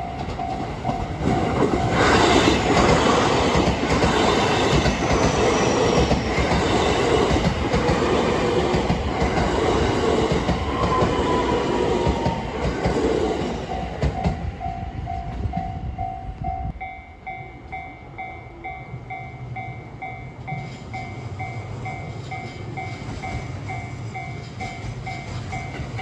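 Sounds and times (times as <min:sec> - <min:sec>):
train wheels clacking on rails: 0:00.0 - 0:26.0.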